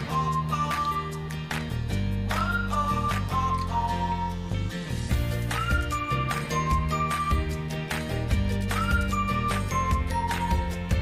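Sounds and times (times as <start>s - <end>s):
pop music with guitar: 0.0s - 11.0s.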